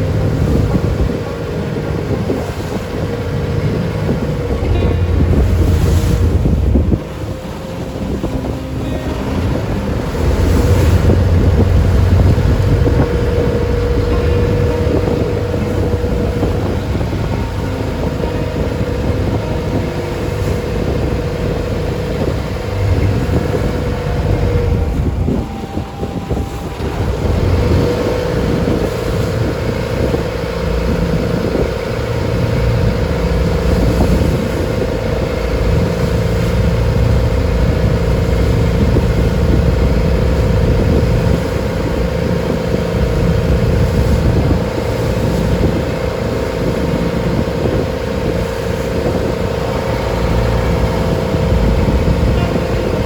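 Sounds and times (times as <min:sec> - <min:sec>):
boat engine humming: 0:00.0 - 0:53.0
water washing: 0:00.0 - 0:53.0
wind: 0:00.0 - 0:53.0.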